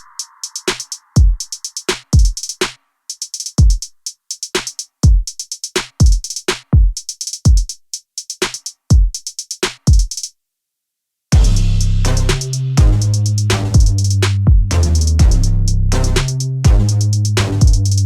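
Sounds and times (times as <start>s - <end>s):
drum machine beat: 0.0s - 10.3s, 11.3s - 18.0s
hi-hat ticks: 0.0s - 10.3s, 11.8s - 18.0s.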